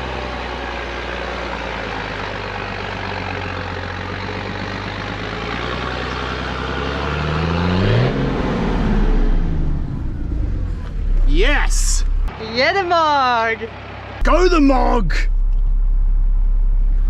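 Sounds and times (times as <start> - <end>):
truck diesel engine labouring: 0.0 - 17.0.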